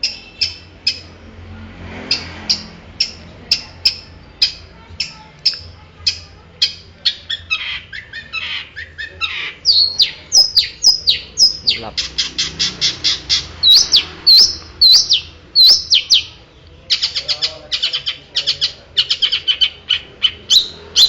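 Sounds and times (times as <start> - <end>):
shrike harsh calls: 0.0 - 21.0.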